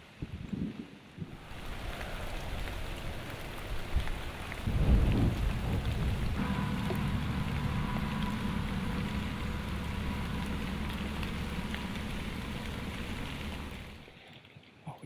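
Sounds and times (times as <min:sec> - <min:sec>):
steady rain: 0:00.0 - 0:14.4
thunder rumbling: 0:01.3 - 0:14.1.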